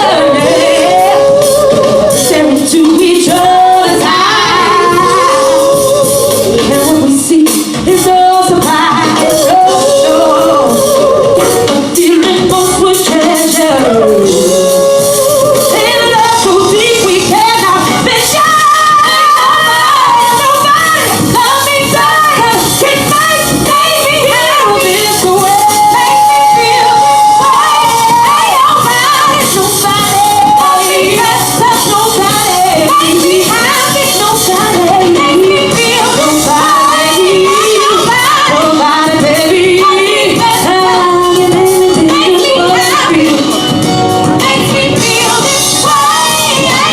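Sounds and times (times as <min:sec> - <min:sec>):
live band playing: 0:00.0 - 0:46.9
woman singing: 0:00.0 - 0:46.9.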